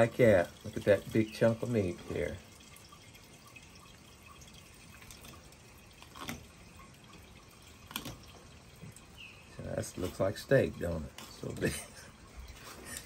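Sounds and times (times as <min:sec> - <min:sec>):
faint dripping water: 0:00.0 - 0:13.0.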